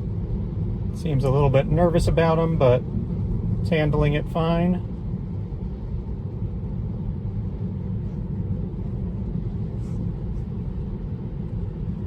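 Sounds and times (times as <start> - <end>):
road and tyre rumble in car: 0.0 - 12.0.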